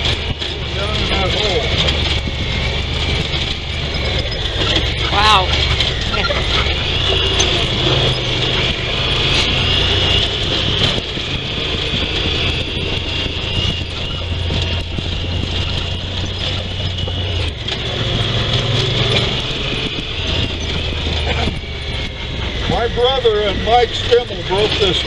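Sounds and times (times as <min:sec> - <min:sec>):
knocks and rattles: 0:00.0 - 0:25.0
vehicle engine running: 0:00.0 - 0:25.0.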